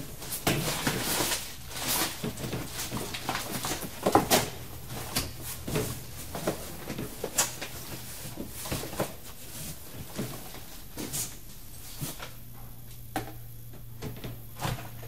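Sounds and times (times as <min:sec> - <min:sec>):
rummaging through boxes: 0:00.0 - 0:12.4
steady low hum: 0:00.0 - 0:15.0.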